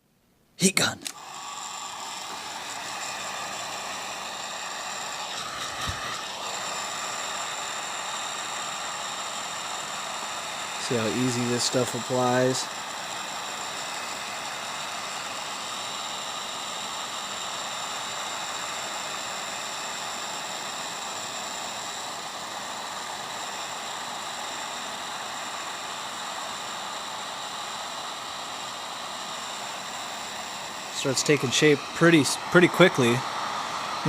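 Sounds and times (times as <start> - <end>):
high motor whine: 1.0 - 20.3, 20.9 - 34.0
heat gun blowing hiss: 1.0 - 34.0.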